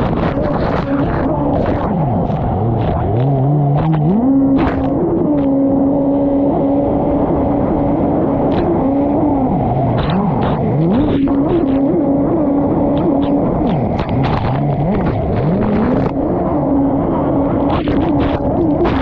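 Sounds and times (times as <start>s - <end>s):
small engine revving: 0.0s - 19.0s.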